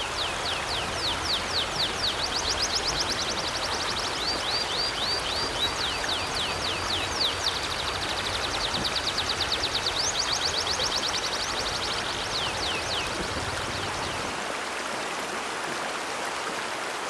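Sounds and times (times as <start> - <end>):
birds chirping: 0.0 - 14.3
river water rushing: 0.0 - 17.0.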